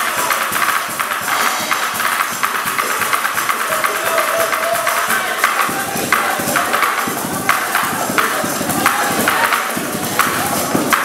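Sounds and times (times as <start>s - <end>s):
acoustic guitar strumming: 0.0s - 11.0s
calabash gourd percussion: 0.0s - 11.0s.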